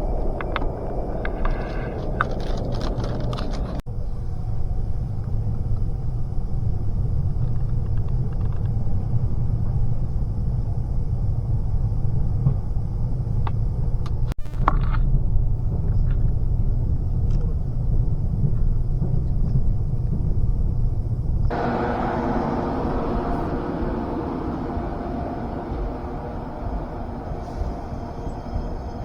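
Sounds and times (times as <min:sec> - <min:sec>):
train rumbling inside carriage: 0:00.0 - 0:14.4, 0:15.0 - 0:29.0.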